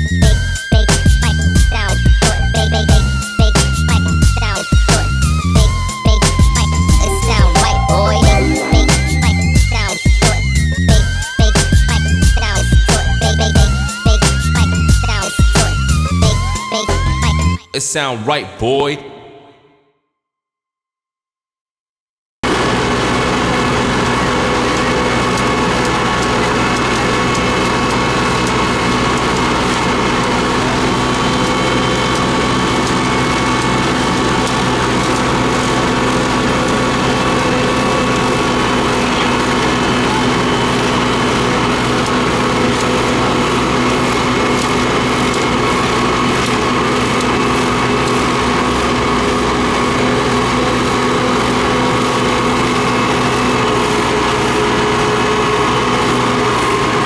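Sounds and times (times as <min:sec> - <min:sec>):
diesel engine drone: 0:00.0 - 0:17.6, 0:22.4 - 0:57.0.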